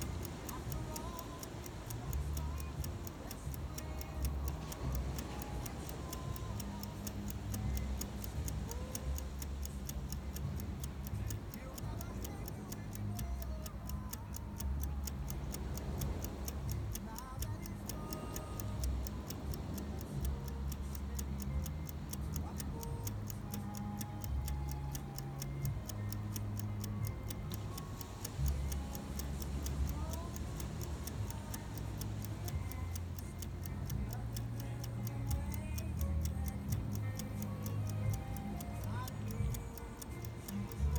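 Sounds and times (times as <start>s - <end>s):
high-pitched rhythmic ticking: 0.0s - 40.9s.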